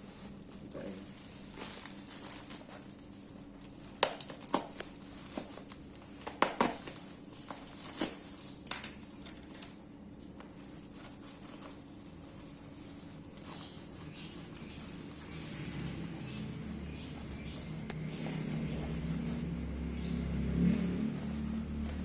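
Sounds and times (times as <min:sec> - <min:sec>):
packaging crinkling: 0:00.0 - 0:19.6
background hum: 0:00.0 - 0:22.0.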